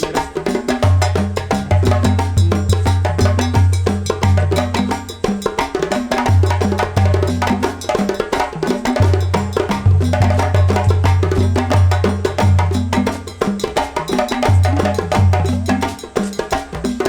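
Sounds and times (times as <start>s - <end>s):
background music with percussive beat: 0.0s - 17.0s.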